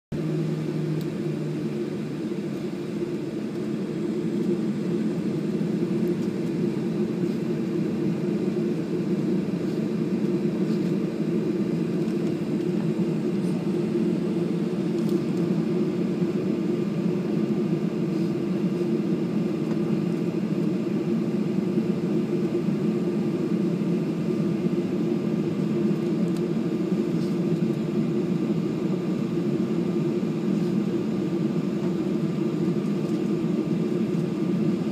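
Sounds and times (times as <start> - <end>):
jet engines hum and rush: 0.1 - 34.9.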